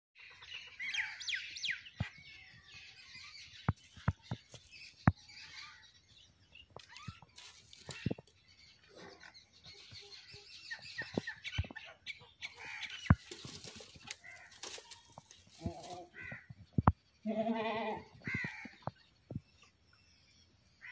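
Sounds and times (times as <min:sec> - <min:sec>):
small birds chirping: 0:00.2 - 0:20.9.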